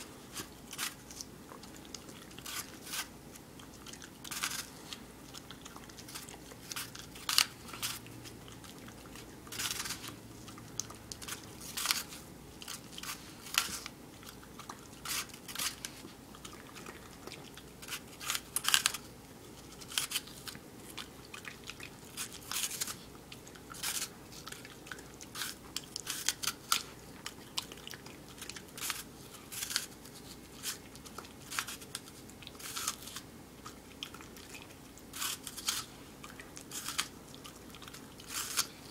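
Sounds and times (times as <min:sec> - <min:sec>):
dog crunching an apple: 0:00.0 - 0:38.9.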